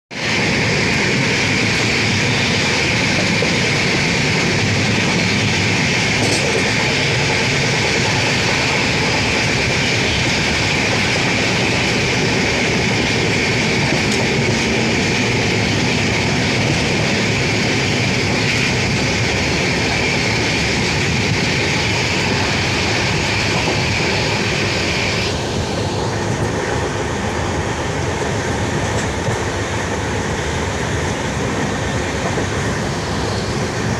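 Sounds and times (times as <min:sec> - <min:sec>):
rushing wind: 0:00.1 - 0:33.9
train wheels rumbling on rails: 0:00.1 - 0:33.9.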